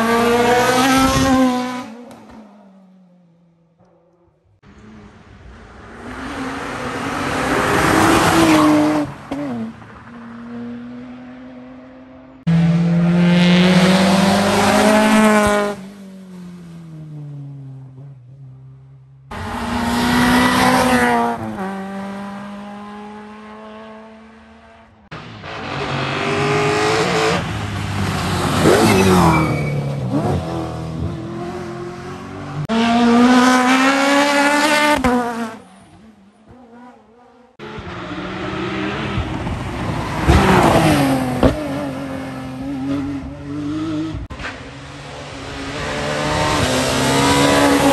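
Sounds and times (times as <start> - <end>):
rally car engines revving: 0.0 - 2.6, 4.6 - 16.8, 19.3 - 47.9.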